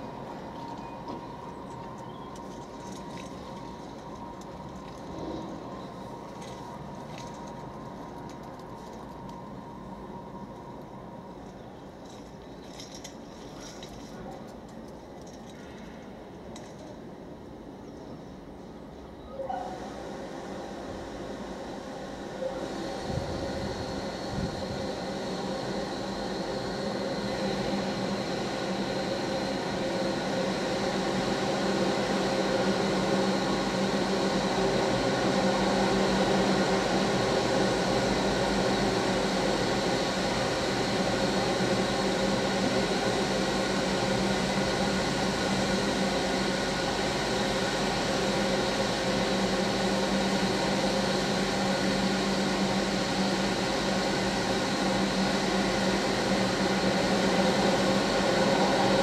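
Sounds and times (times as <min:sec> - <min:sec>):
muffled car wash machinery: 0:00.0 - 0:59.0.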